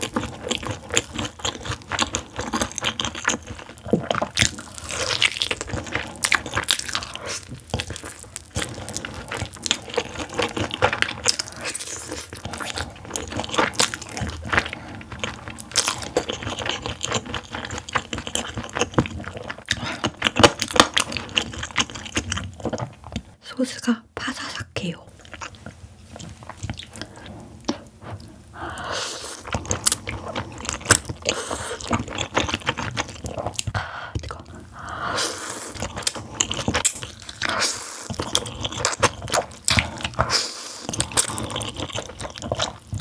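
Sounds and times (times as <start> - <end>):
crunching and chewing fried chicken: 0.0 - 23.4, 25.2 - 43.0.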